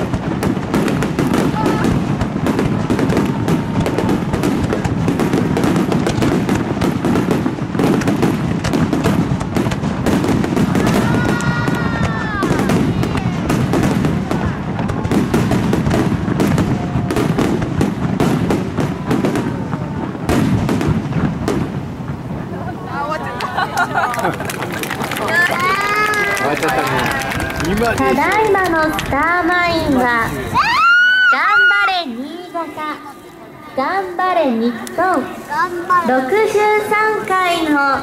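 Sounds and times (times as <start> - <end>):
fireworks bangs and crackle: 0.0 - 38.0.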